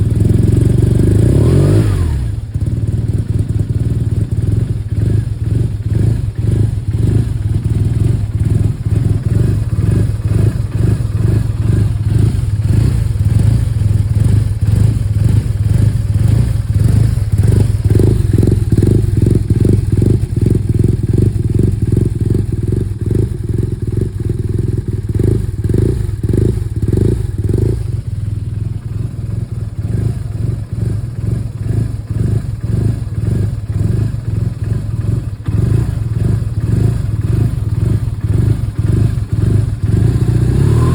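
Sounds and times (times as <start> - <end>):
motorcycle engine idling roughly: 0.0 - 40.9.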